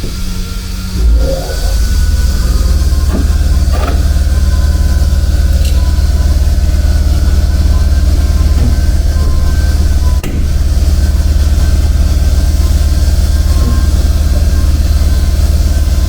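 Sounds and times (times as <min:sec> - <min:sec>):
machine motor humming: 0:00.0 - 0:16.0.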